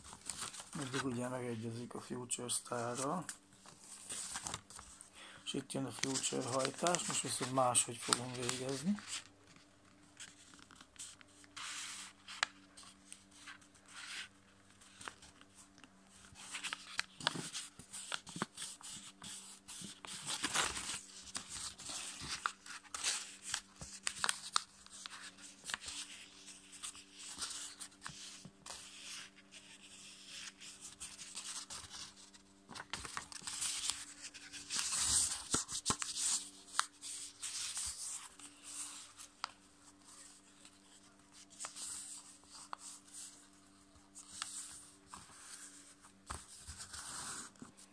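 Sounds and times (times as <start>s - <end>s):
paper rustling: 0.0s - 2.1s, 2.7s - 47.9s.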